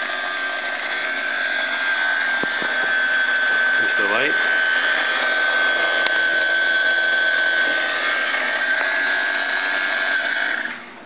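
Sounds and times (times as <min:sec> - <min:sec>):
small electric motor whining: 0:00.0 - 0:11.0.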